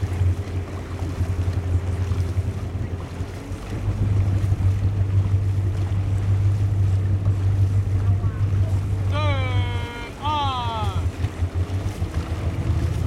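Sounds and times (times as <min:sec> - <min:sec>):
boat moving on water: 0:00.0 - 0:13.0
wind rumbling on microphone: 0:00.0 - 0:13.0.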